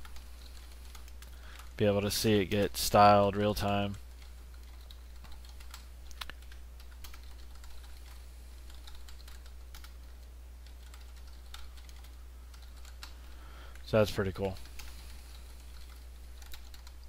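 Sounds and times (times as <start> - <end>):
computer keyboard typing: 0.0 - 1.8, 3.4 - 13.8, 14.4 - 17.0.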